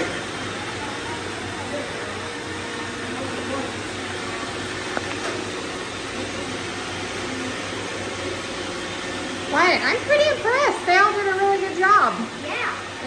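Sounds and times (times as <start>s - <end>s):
robot vacuums whirring: 0.0s - 13.0s.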